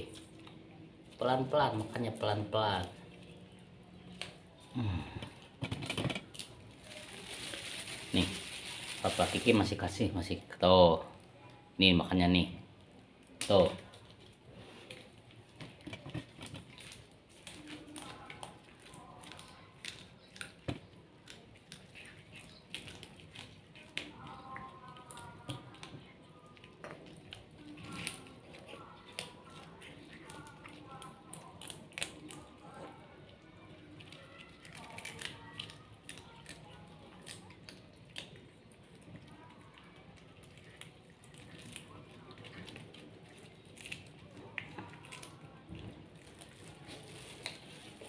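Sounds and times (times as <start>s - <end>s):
kitten chewing and crunching: 0.0s - 10.4s, 12.8s - 48.0s
faint background music: 0.0s - 48.0s.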